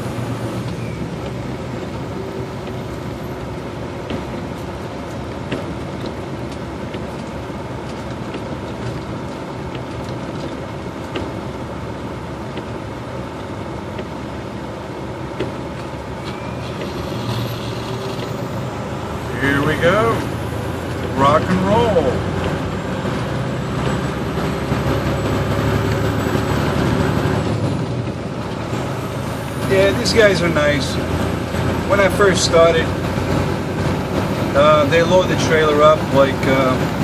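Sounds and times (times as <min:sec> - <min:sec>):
truck diesel engine drone: 0:00.0 - 0:37.0
tyres on wet road: 0:00.0 - 0:37.0.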